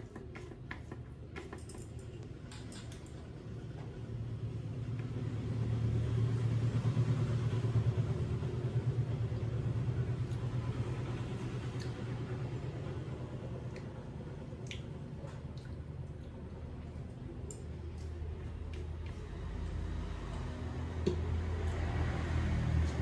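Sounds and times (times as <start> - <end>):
low rumble of passing vehicle: 3.2 - 23.0.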